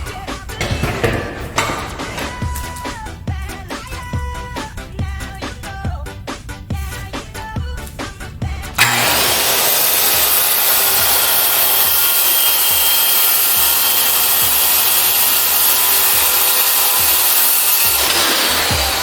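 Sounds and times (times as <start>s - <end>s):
circular saw cutting plywood: 0.0s - 19.0s.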